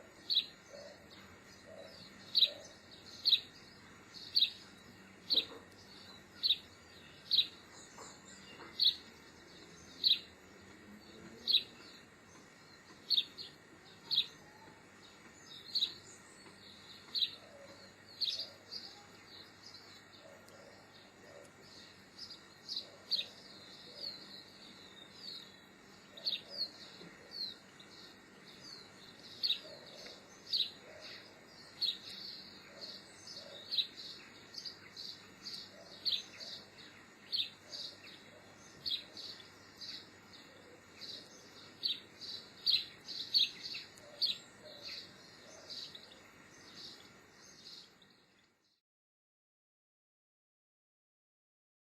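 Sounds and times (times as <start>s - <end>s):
bird high chirp: 0.1s - 10.4s, 11.2s - 48.0s.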